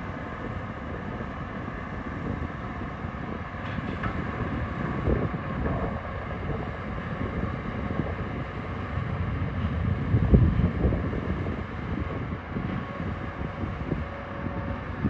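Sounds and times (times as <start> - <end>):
diesel engine rumble: 0.0 - 15.0
wind noise on microphone: 0.0 - 15.0.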